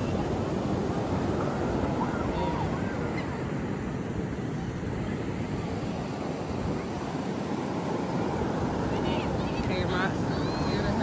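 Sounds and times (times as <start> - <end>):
ocean surf on beach: 0.0 - 11.0
wind buffeting microphone: 0.0 - 11.0.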